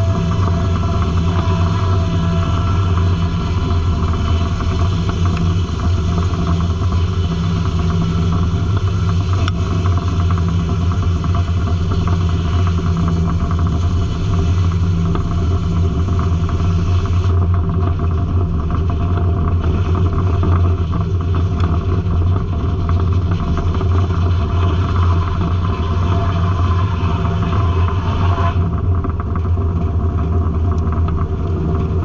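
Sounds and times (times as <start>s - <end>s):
sawmill engine droning: 0.0s - 32.0s.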